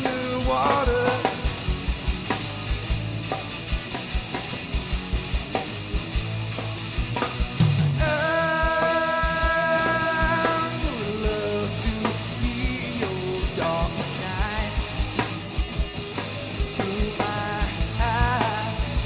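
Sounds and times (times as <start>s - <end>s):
electric guitars: 0.0s - 19.0s.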